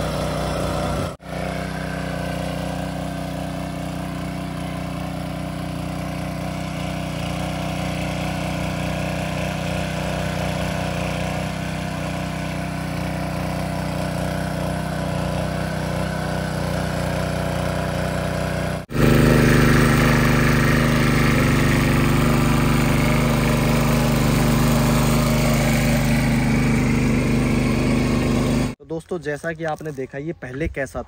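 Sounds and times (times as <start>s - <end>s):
power tiller engine running: 0.0s - 28.8s.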